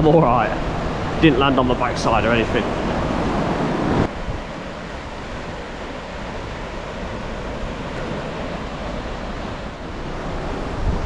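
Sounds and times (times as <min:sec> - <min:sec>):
small waves breaking on sand: 0:00.4 - 0:11.0.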